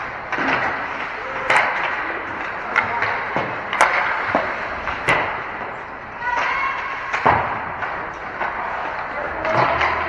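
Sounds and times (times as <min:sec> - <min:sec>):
hockey sticks clacking puck: 0:00.0 - 0:10.0
ice rink background noise: 0:00.0 - 0:10.0.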